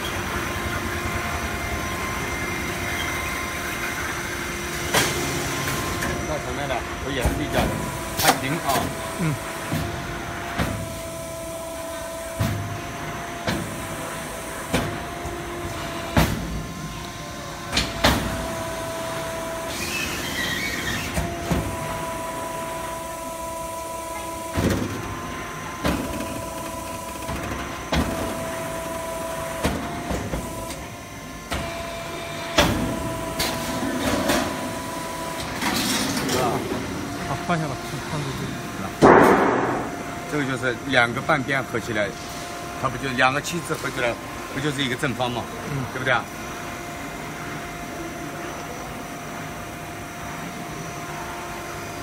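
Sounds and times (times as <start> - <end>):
motor whine: 0.0 - 42.0.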